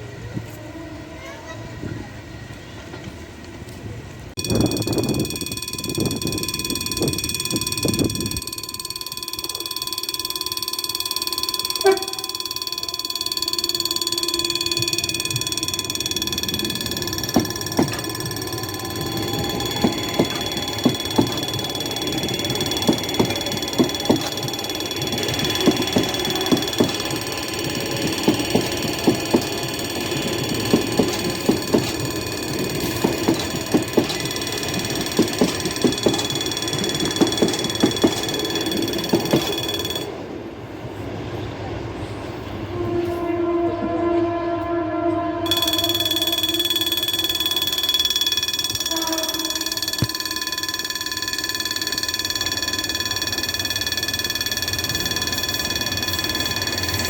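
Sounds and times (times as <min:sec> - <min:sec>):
freight train passing: 0:00.0 - 0:57.0
wheels clacking over rail joints: 0:04.4 - 0:40.1, 0:45.5 - 0:57.0
level crossing alarm ringing: 0:04.4 - 0:40.2, 0:45.4 - 0:57.0.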